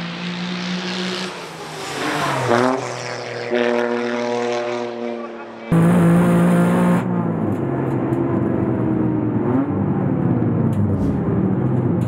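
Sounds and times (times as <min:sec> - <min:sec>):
race car engine passing: 0:00.0 - 0:09.9.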